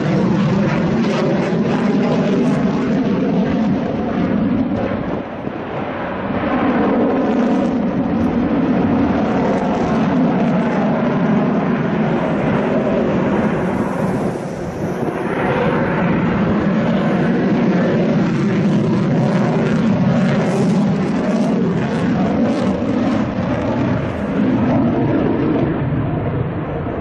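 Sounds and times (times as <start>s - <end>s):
jet engine rumble: 0.0s - 27.0s.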